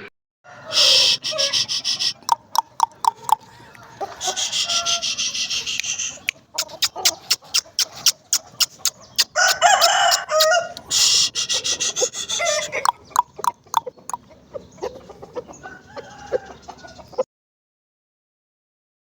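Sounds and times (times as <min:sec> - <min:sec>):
roosters crowing hoarsely: 0:00.5 - 0:17.2
sharp clucks: 0:00.6 - 0:17.2.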